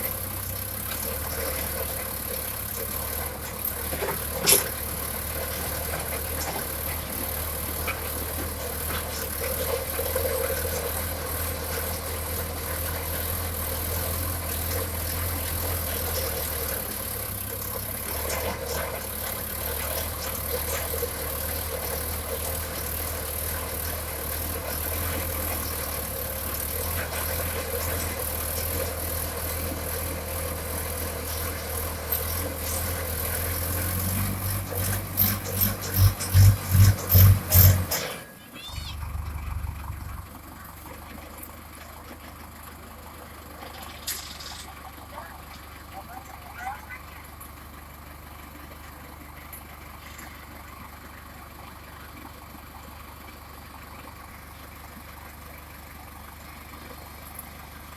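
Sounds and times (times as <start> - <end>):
tractor engine under load: 0.0 - 57.9.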